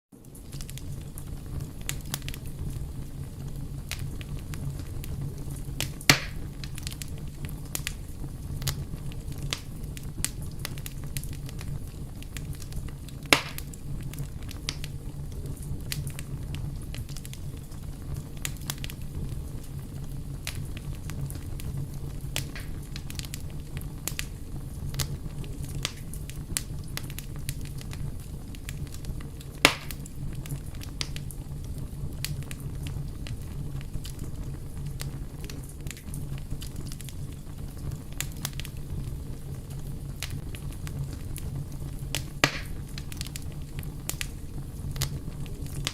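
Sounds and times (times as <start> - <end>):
wood fire crackling: 0.1 - 45.9.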